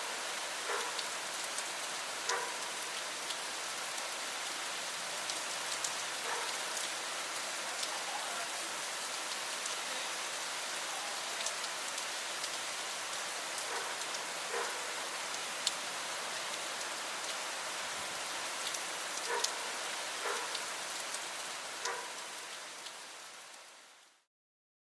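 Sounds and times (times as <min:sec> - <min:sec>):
heavy rain falling: 0:00.0 - 0:24.2
raindrops landing close by: 0:00.1 - 0:24.0.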